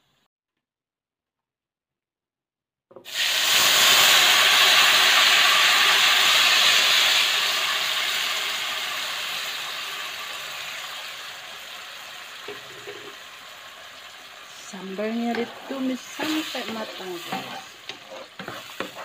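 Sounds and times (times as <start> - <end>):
chili paste sizzling in oil: 3.1 - 19.0.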